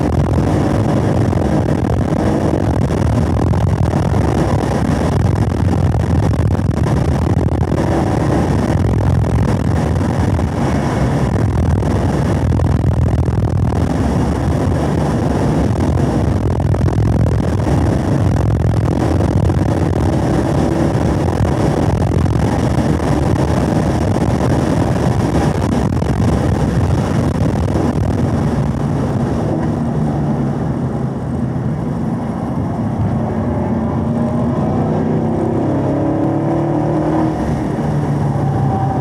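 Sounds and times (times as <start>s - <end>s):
car engine running hard: 0.0s - 39.0s
wind and tyre noise: 0.0s - 39.0s.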